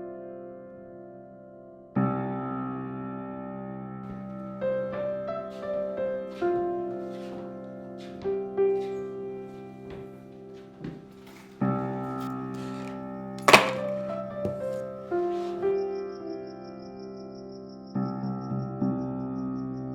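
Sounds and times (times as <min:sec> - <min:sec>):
soft piano music: 0:00.0 - 0:19.9.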